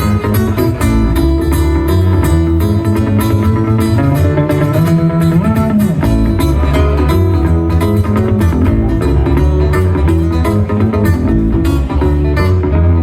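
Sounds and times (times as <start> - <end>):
low bass line: 0.0 - 13.0
plucked and strummed guitar: 0.0 - 13.0.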